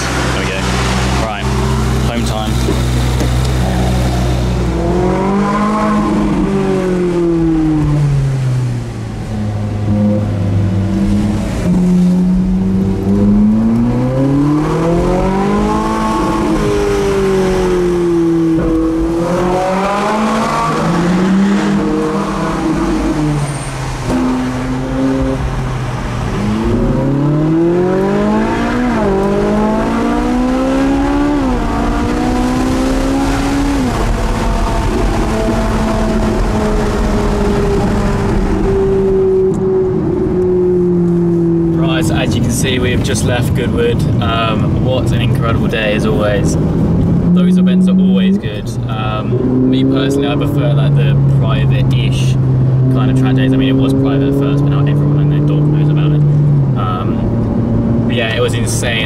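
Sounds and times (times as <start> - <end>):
car engine revving: 0.0 - 59.0
quick gear upshifts: 0.0 - 59.0.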